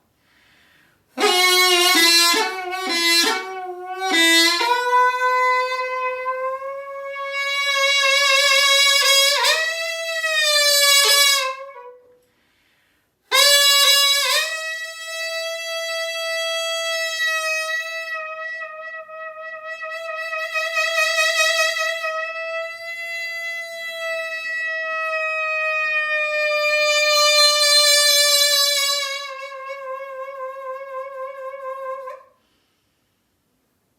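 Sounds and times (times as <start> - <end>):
double-reed oboe playing: 1.2 - 12.2, 13.3 - 32.4.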